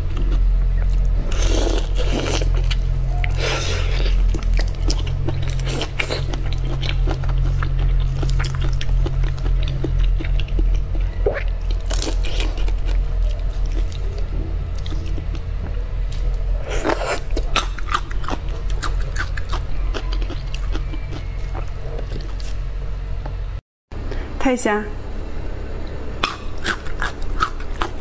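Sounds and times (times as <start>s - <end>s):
crunchy chewing: 0.0s - 22.7s, 26.2s - 28.0s.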